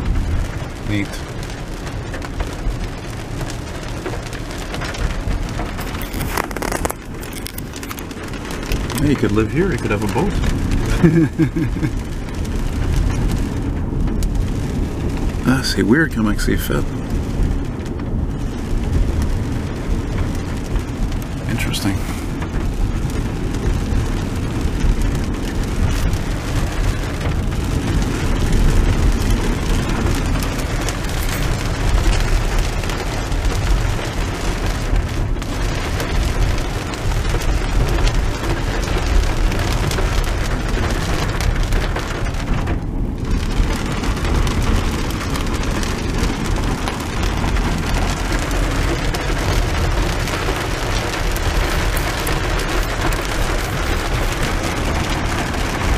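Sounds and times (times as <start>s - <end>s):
heavy rain on car roof: 0.0s - 55.9s
tyres rumbling on wet road: 0.0s - 55.9s.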